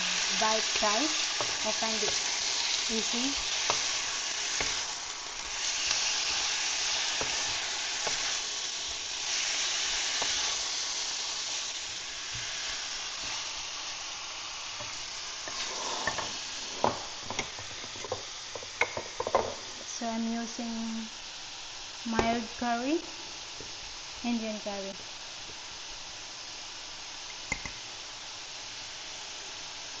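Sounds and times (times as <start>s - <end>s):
onion sizzling in oil: 0.0s - 30.0s.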